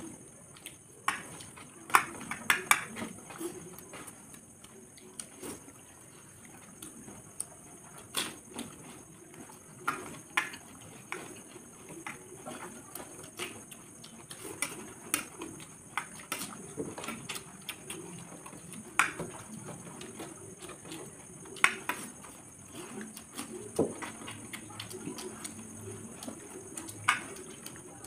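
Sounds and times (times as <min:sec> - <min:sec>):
chewing and mouth noises: 0:00.0 - 0:28.0.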